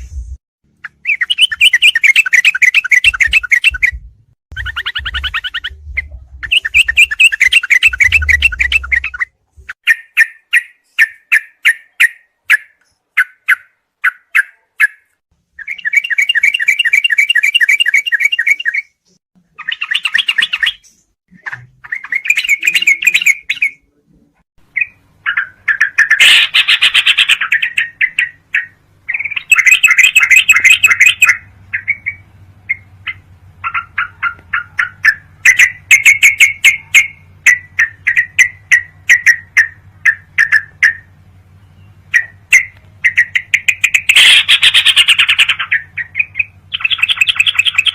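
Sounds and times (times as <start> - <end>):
harsh bird call: 0.8 - 19.0, 24.7 - 47.9
bird chirping and trilling: 0.8 - 23.9, 24.6 - 47.9.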